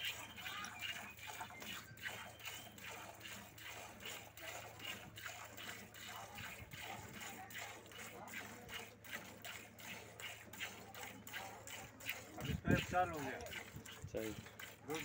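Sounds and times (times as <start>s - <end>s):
milk squirting into bucket: 0.0s - 15.0s.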